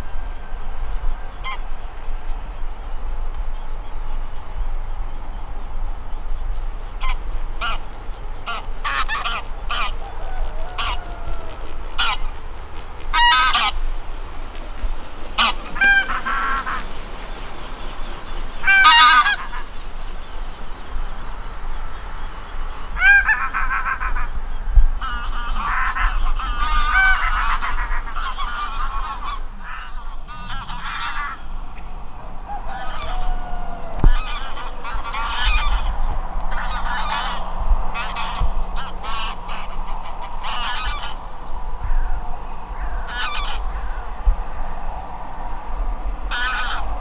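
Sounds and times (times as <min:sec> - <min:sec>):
geese honking: 0:00.0 - 0:02.6, 0:06.7 - 0:20.6, 0:22.9 - 0:24.4, 0:25.0 - 0:47.0
low steady rumble: 0:00.0 - 0:47.0.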